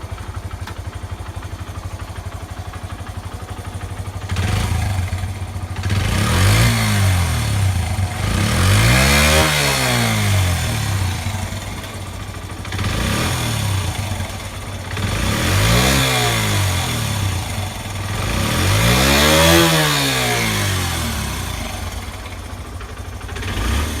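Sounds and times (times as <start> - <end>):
motorbike engine idling and revving: 0.0 - 24.0.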